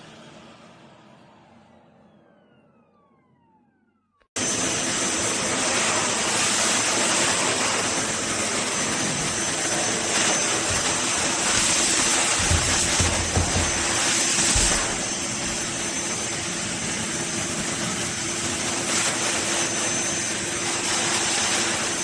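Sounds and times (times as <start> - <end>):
dog blow dryer whine: 0.0 - 22.0.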